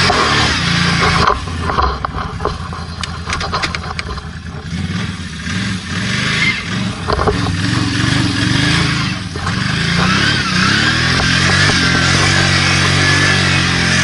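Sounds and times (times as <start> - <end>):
quad bike engine under load: 0.0 - 14.0.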